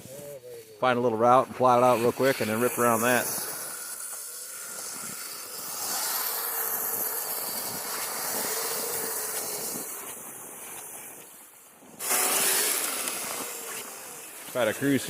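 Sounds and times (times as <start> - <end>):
tracks churning snow: 0.0 - 15.0
sudden rushing hiss: 1.8 - 15.0
electric motor whine: 2.0 - 11.3, 12.0 - 15.0.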